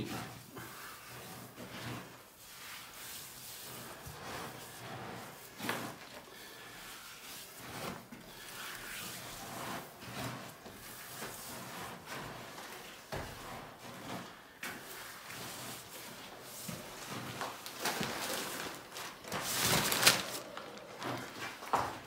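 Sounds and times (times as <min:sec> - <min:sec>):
rubbing and scraping: 0:00.0 - 0:22.0.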